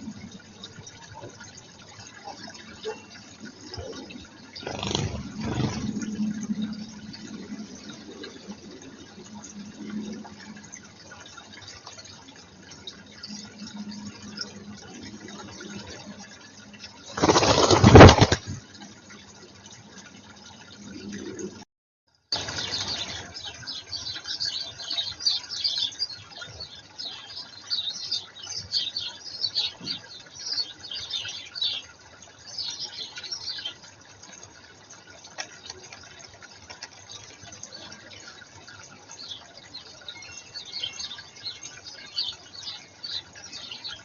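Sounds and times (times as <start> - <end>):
water noise: 0.0 - 44.0
birds chirping: 2.1 - 18.6, 22.4 - 34.9, 35.5 - 44.0.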